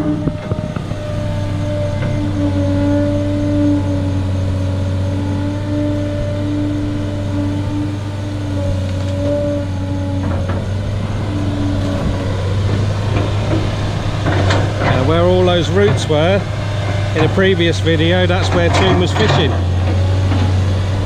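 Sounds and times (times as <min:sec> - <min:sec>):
diesel engine running: 0:00.0 - 0:21.0
held whine: 0:00.0 - 0:21.0.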